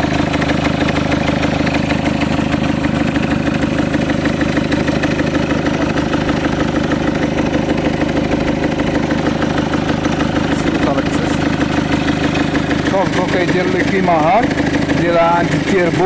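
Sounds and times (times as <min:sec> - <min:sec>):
diesel engine idling rumble: 0:00.0 - 0:16.0.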